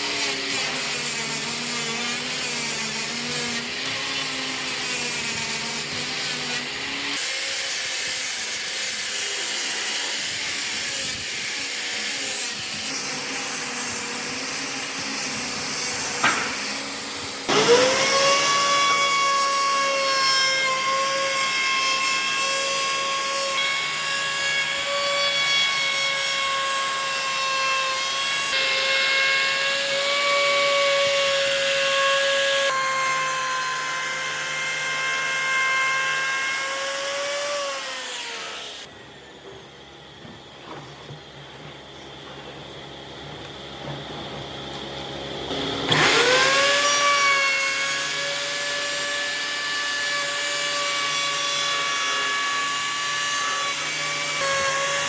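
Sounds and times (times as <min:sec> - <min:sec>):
power tool whining: 0:00.0 - 0:55.0.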